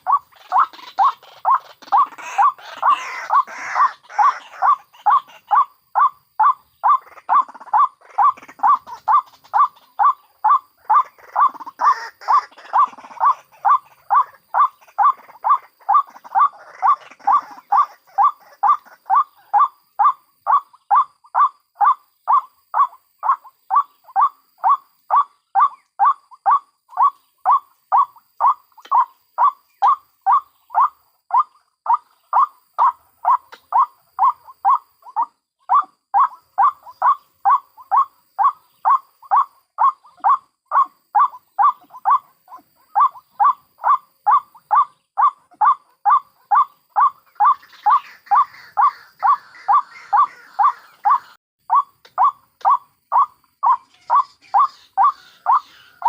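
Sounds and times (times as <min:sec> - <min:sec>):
rough bird call: 0:00.0 - 0:56.0
waterhen calling: 0:00.0 - 0:56.0.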